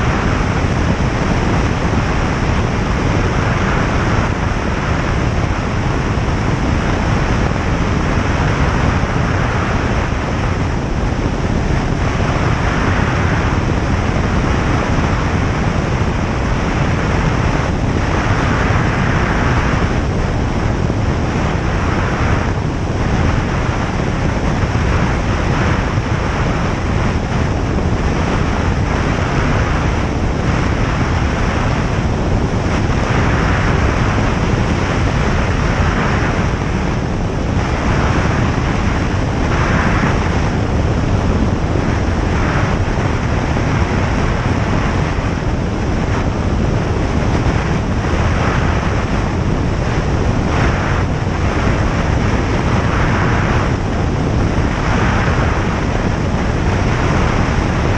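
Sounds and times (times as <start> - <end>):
light aircraft engine droning: 0.0 - 57.9
rush of airflow: 0.0 - 57.9.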